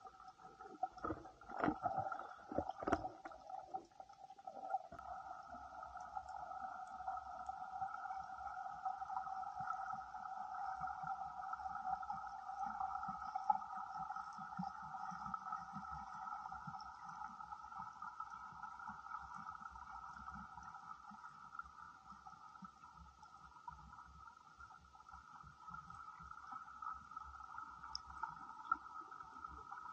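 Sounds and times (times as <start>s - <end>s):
underwater hum: 0.0s - 29.9s.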